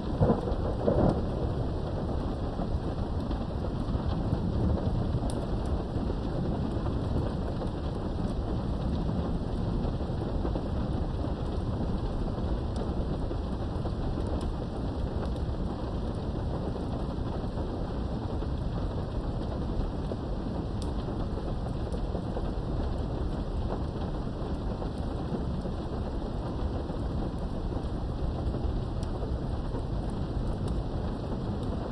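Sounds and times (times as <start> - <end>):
low thunder rumble: 0.0 - 31.9
steady rain: 0.0 - 31.9.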